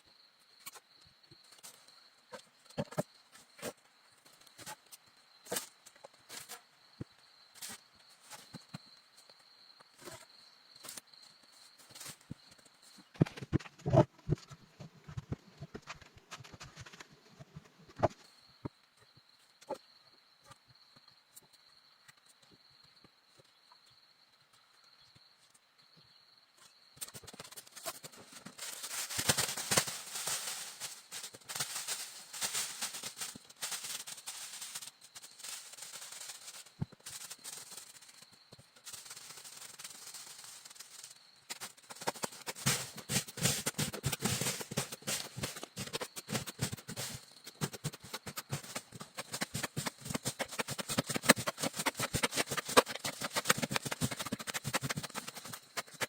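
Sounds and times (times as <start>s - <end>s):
rustling and scraping crackles: 0.6s - 6.7s, 7.6s - 18.4s, 27.0s - 56.0s.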